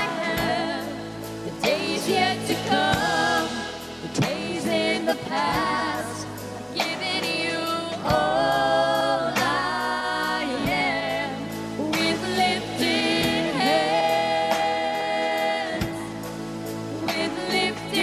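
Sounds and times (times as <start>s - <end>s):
worship song by a band: 0.0s - 18.0s.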